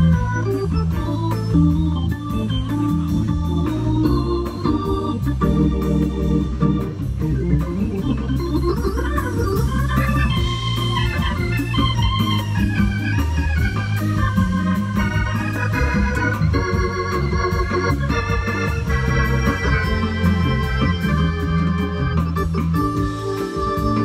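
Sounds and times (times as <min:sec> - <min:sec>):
organ-voiced keyboard: 0:00.0 - 0:24.0
stepping bass line: 0:00.0 - 0:24.0.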